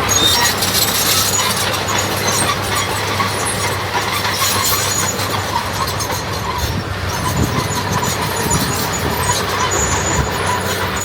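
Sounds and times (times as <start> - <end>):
bulldozer engine hum: 0.0 - 11.0
tracks clattering and squealing: 0.0 - 11.0.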